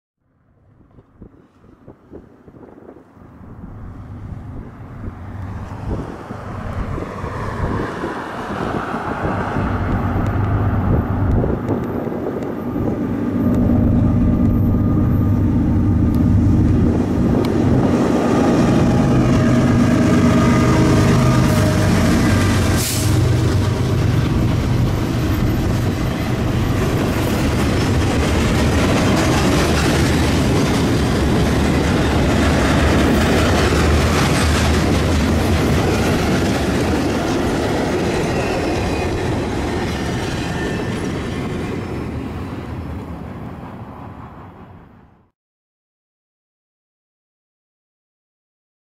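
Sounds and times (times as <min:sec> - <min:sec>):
locomotive engine drone: 0:03.3 - 0:44.8
wheel-on-rail noise: 0:04.1 - 0:44.2.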